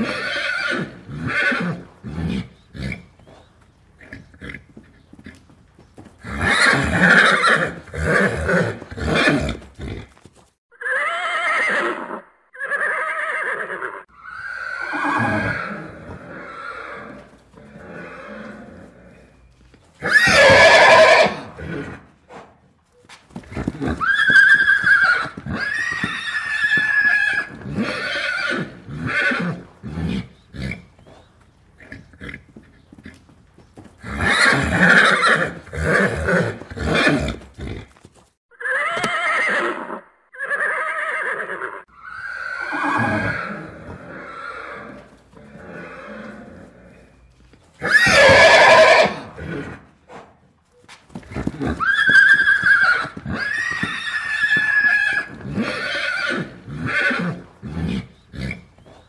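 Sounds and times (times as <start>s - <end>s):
horses neighing: 0.0s - 22.6s, 23.3s - 50.4s, 51.1s - 59.0s.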